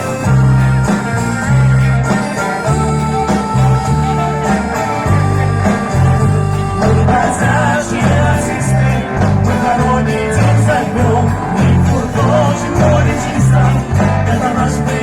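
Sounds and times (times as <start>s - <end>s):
bass line: 0.0s - 15.0s
live pop-rock band: 0.0s - 15.0s.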